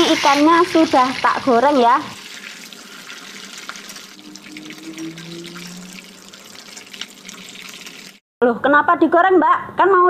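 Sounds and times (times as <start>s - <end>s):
oil sizzling in a wok: 0.0s - 8.2s.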